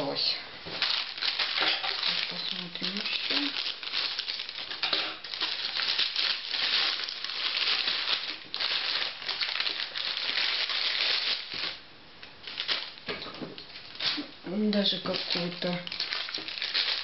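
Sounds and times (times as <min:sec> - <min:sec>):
plastic mailer bag crinkling: 0:00.7 - 0:11.8, 0:12.4 - 0:13.1, 0:13.7 - 0:17.0.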